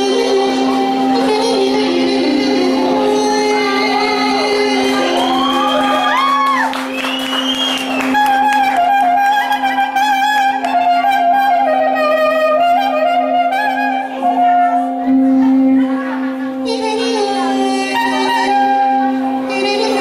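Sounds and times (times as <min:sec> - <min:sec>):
clarinet dance melody: 0:00.0 - 0:20.0
keyboard drone: 0:00.0 - 0:20.0.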